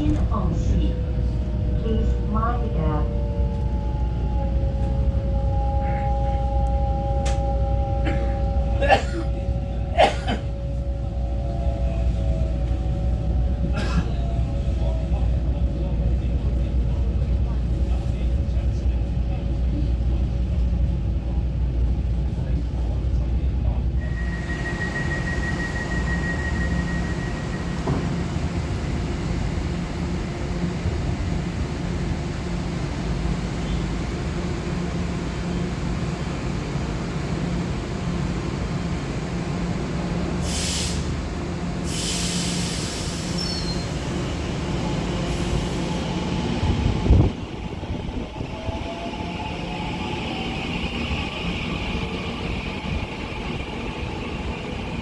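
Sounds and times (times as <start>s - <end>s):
train running gear rumble: 0.0s - 55.0s.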